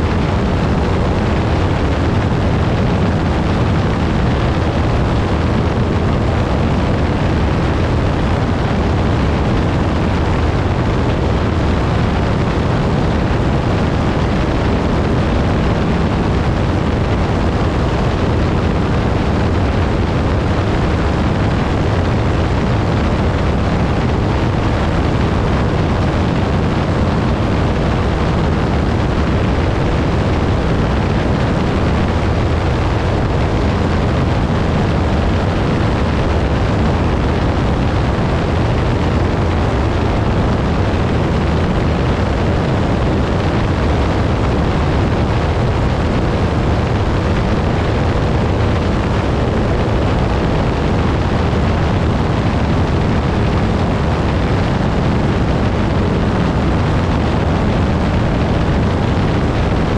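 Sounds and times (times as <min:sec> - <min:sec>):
propeller plane engine drone: 0:00.0 - 0:59.9.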